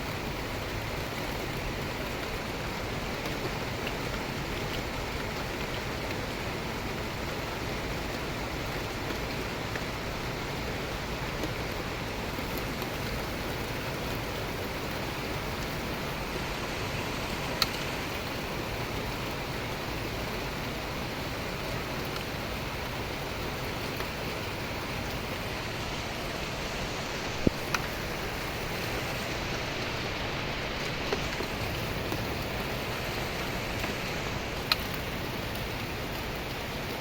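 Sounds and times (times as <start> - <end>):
rain hiss: 0.0 - 37.0
sharp drip ticks: 0.6 - 25.4, 27.3 - 36.7.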